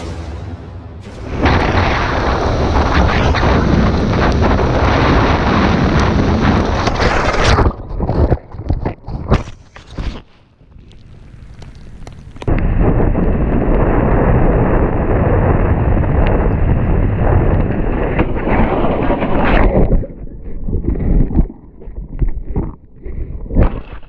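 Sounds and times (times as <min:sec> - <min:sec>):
wind buffeting microphone: 0:01.0 - 0:09.4, 0:12.5 - 0:23.8.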